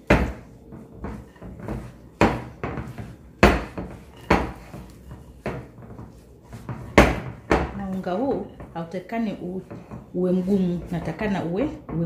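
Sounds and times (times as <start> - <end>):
dough mixing sounds: 0.0 - 12.0.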